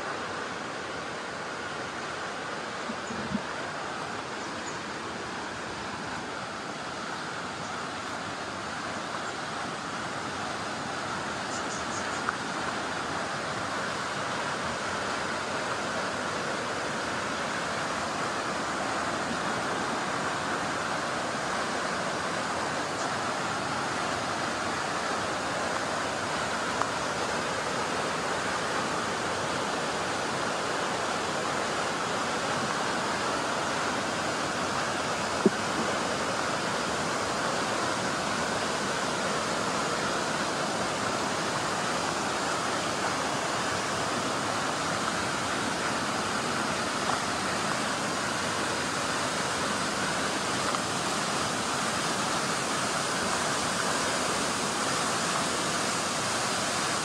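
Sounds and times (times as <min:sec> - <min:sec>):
falling water roar: 0:00.0 - 0:57.0.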